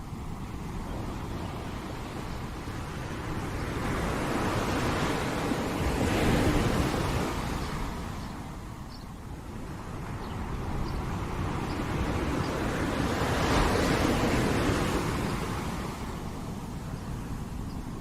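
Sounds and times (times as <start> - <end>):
ocean waves breaking on shore: 0.0 - 18.0.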